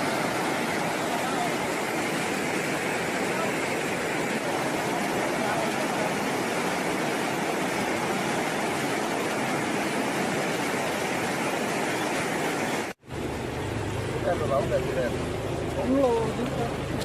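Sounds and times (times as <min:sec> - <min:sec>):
fast-flowing river rushing: 0:00.0 - 0:17.0.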